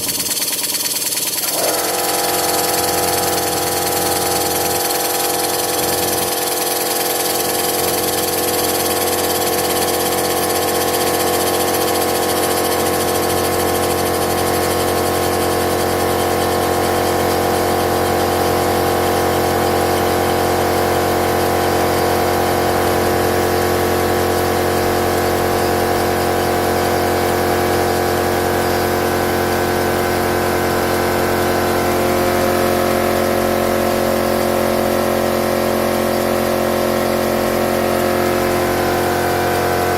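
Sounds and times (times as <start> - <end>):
model engine exhaust beat: 0.0 - 39.9.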